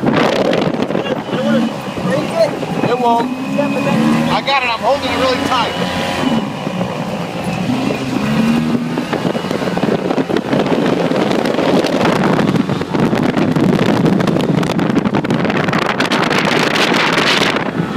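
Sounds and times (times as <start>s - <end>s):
off-road vehicle driving: 0.0s - 17.9s
wind buffeting microphone: 0.0s - 17.9s.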